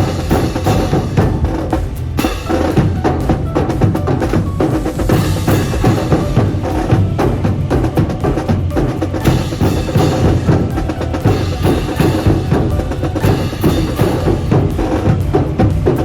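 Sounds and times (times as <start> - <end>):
brass band playing march: 0.0 - 16.0
snare and bass drums: 0.0 - 16.0.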